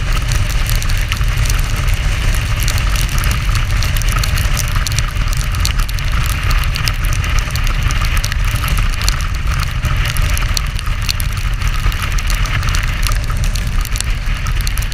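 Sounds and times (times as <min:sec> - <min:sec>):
raindrops ticking on camera: 0:00.0 - 0:14.9.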